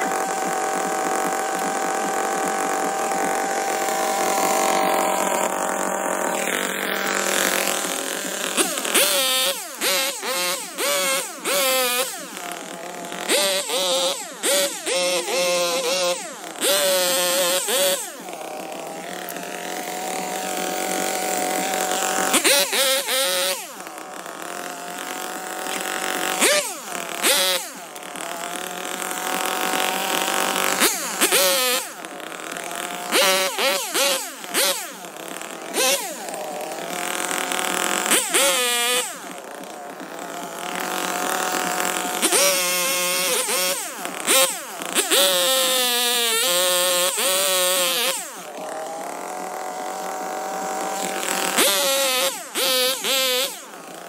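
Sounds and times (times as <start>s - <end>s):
chainsaw cutting branches: 0.0s - 54.0s.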